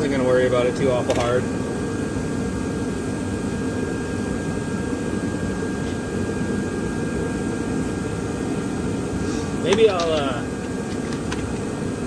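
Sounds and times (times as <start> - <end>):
fan-like rushing hum: 0.0 - 12.0.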